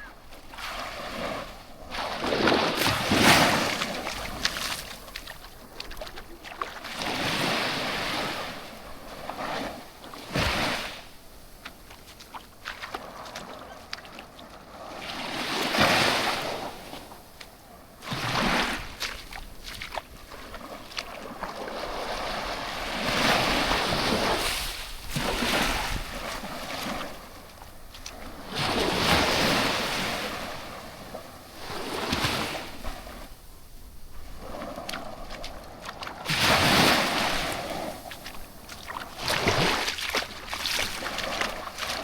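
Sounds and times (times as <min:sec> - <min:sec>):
waves breaking on beach: 0:00.0 - 0:42.0.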